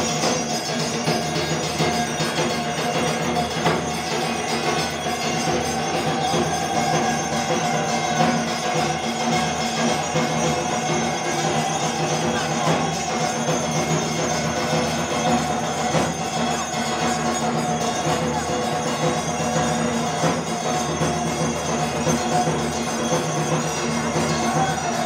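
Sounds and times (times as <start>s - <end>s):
bells jingling: 0.0s - 25.0s
brass percussion: 0.0s - 25.0s
drums playing: 0.0s - 25.0s.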